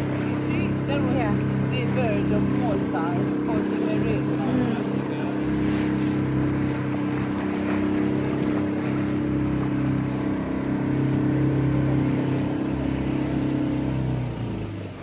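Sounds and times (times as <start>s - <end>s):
boat motor humming: 0.0s - 15.0s
water rushing along hull: 0.0s - 15.0s.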